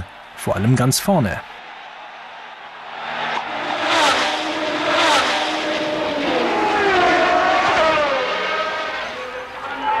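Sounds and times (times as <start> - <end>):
racing cars passing: 1.5 - 10.0.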